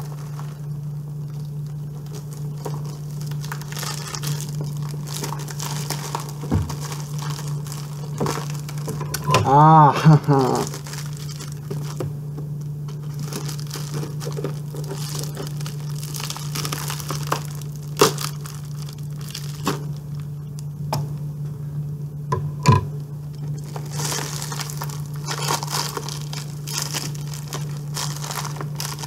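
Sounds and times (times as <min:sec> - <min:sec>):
packaging tape tearing and crinkling: 0:00.0 - 0:12.1, 0:12.9 - 0:20.3, 0:23.5 - 0:29.0
low hum: 0:00.0 - 0:29.0.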